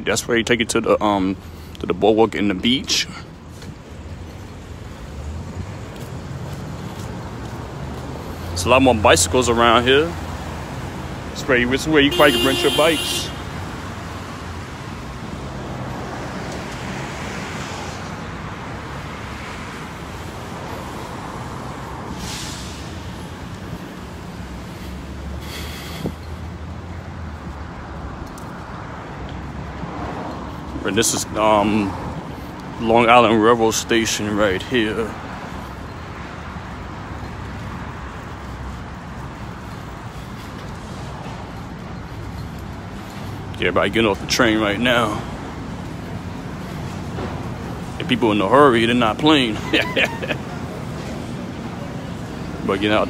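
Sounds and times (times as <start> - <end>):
cars passing: 0.0 - 53.0
roadway rumble: 0.0 - 53.0.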